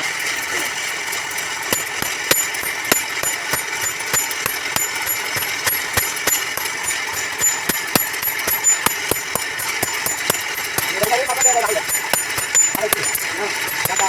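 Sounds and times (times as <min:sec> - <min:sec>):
hammer striking iron on anvil: 0:01.6 - 0:14.0.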